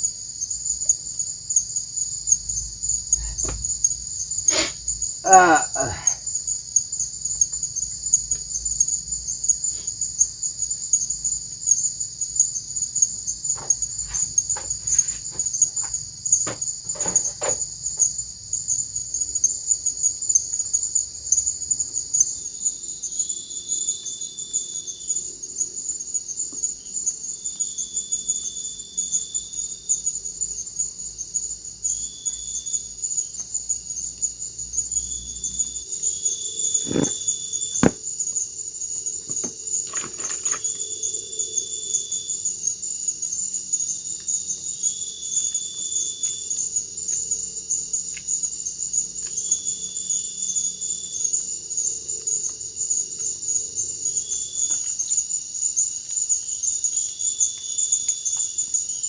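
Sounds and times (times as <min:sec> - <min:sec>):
insect repeated lower calls: 0:00.0 - 0:59.0
insects shrilling chorus: 0:00.4 - 0:59.0.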